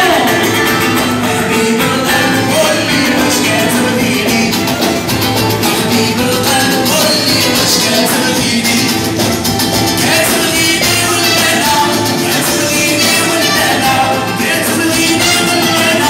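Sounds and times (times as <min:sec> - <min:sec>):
men singing into microphones: 0:00.0 - 0:16.0
percussion beat: 0:00.0 - 0:16.0
strummed acoustic guitars: 0:00.0 - 0:16.0.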